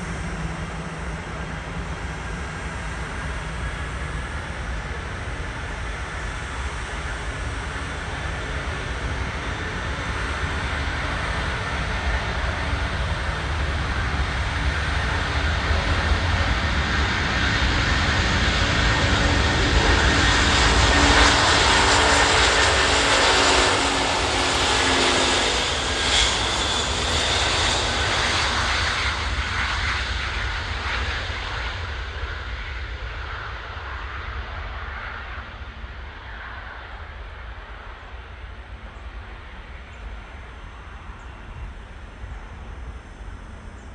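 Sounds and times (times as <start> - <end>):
jet engines roaring at takeoff: 0.0 - 43.9.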